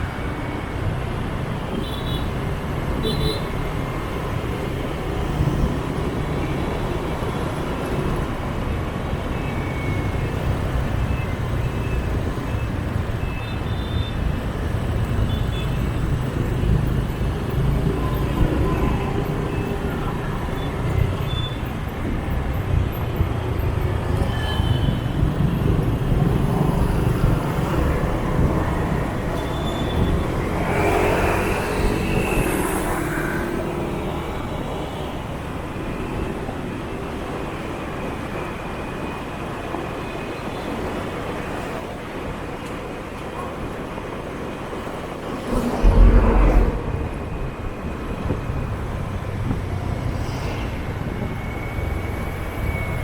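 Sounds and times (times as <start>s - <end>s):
road noise: 0.0s - 53.0s.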